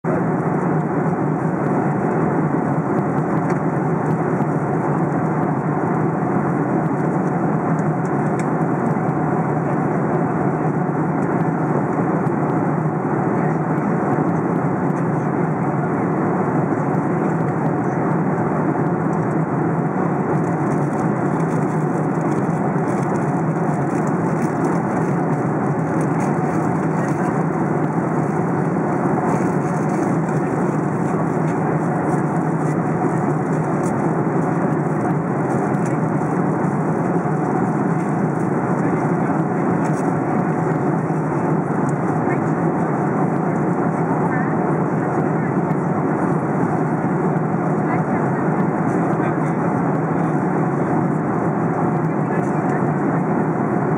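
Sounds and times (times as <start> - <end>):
airplane cabin noise: 0.0 - 53.9.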